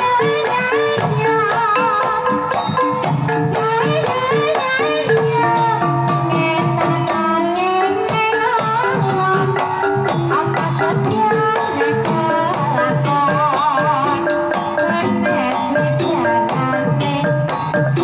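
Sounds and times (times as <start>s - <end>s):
woman singing: 0.0s - 2.6s, 3.4s - 18.0s.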